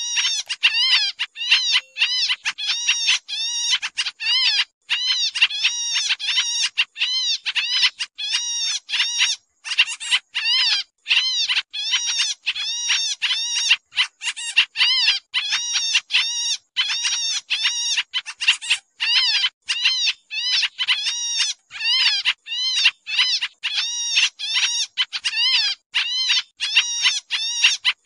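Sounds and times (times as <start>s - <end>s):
bird calling harsh notes: 0.0s - 28.0s.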